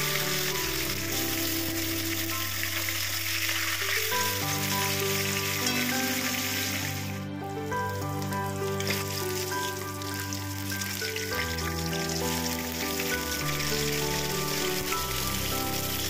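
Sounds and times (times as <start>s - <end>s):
fish sizzling in hot oil: 0.0s - 7.0s, 8.4s - 16.0s.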